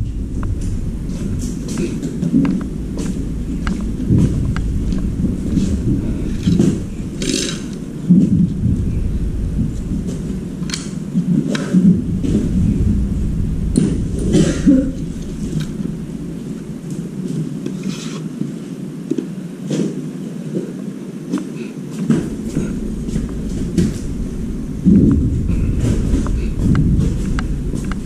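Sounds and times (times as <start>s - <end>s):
low rumble: 0.0s - 17.8s, 22.1s - 28.0s.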